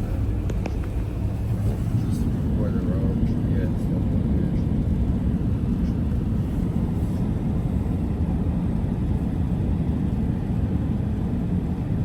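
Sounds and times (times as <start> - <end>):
pickup engine rumble: 0.0 - 11.5.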